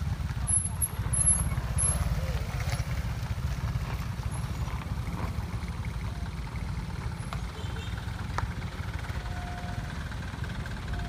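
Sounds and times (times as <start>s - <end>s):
vehicles running on gravel: 0.0s - 11.0s.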